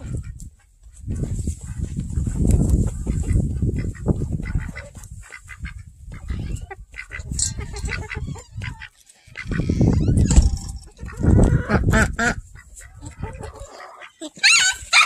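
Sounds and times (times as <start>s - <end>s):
hens clucking: 0.0s - 15.0s
ducks quacking: 1.7s - 15.0s.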